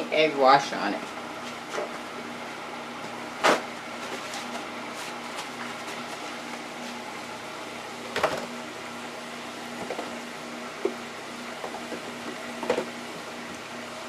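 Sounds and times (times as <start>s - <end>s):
low appliance hum: 0.0s - 14.0s.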